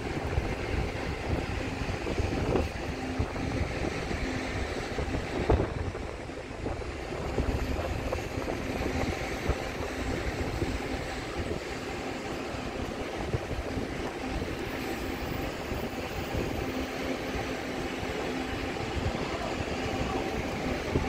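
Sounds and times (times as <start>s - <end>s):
train wheels rumbling on rail: 0.0s - 21.0s
wind buffeting microphone: 0.0s - 21.0s.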